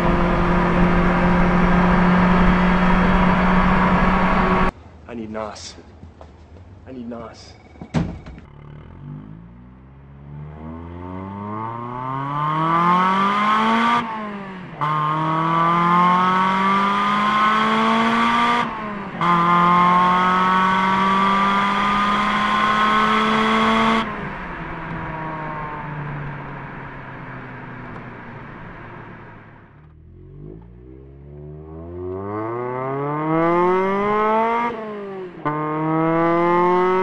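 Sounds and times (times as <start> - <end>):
car engine revving through gears: 0.0 - 4.7, 8.4 - 37.0.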